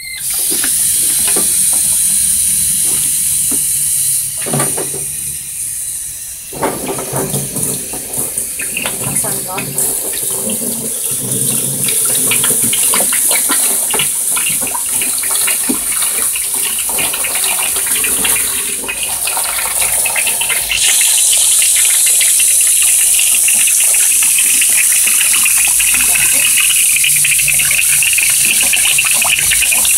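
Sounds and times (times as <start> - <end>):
hose water splashing into bin: 0.1 - 5.2, 6.4 - 29.9.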